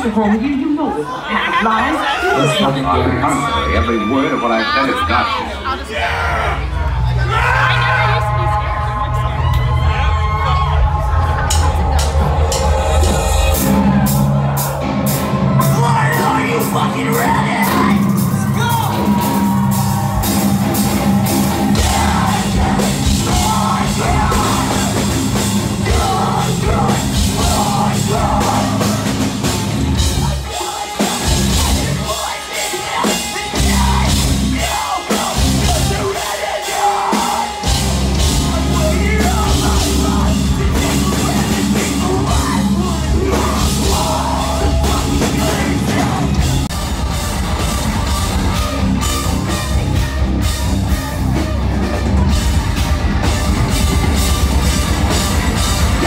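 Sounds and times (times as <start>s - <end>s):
live heavy rock band: 0.0s - 56.0s.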